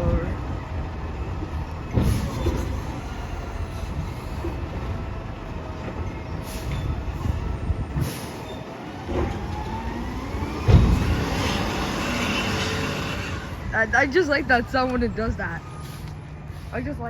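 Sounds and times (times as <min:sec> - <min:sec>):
garbage truck machinery running: 0:00.0 - 0:16.6.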